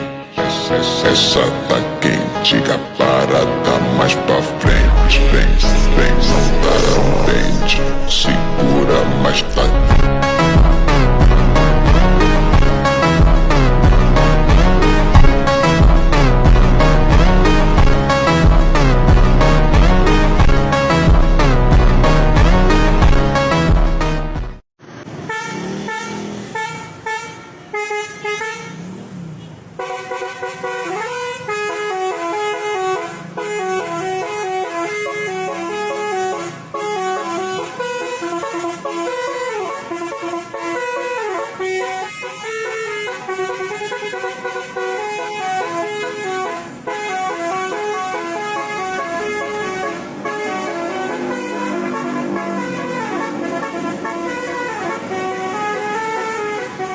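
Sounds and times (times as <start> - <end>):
truck horns honking a tune: 0.0 - 56.9.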